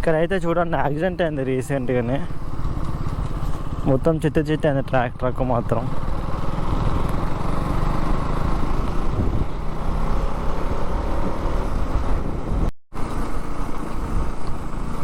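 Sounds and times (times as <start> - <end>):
road noise: 0.0 - 15.0
motorcycle engine running: 0.1 - 15.0.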